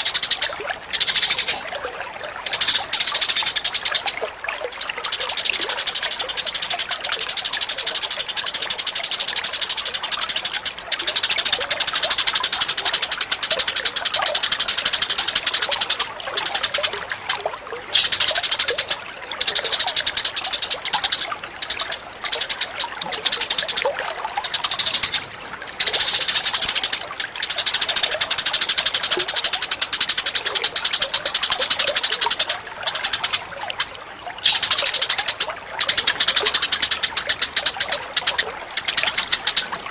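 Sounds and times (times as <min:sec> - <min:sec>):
bird ticking trill: 0:00.0 - 0:39.9
faint trickle of water: 0:00.0 - 0:39.9.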